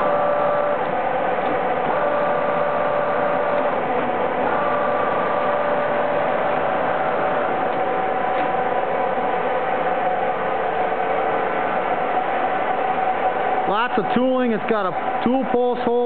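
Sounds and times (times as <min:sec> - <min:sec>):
lathe whirring: 0:00.0 - 0:16.0
whining gear tones: 0:00.0 - 0:16.0.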